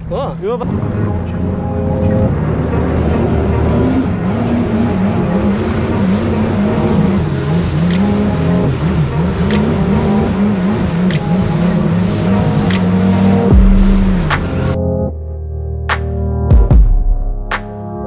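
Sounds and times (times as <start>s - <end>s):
jet ski engine running: 0.0s - 14.8s.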